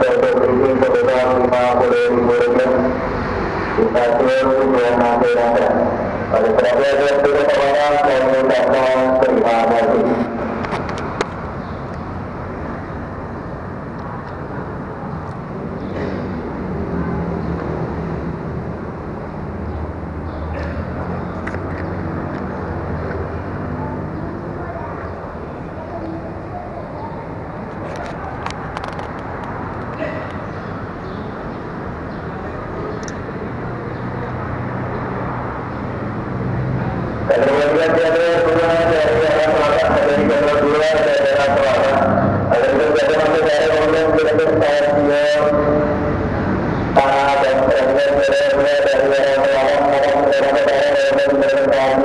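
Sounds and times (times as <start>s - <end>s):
distant traffic rumble: 0.0s - 52.0s.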